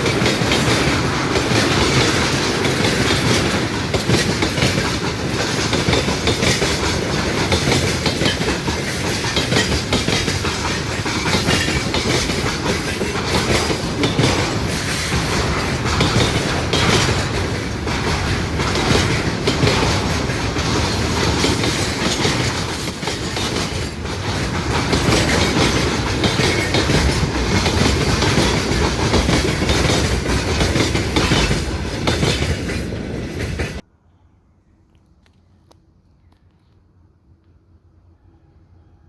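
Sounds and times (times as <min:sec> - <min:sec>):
wheels clattering over rail joints: 0:00.0 - 0:33.8
train passing close by: 0:00.0 - 0:34.1.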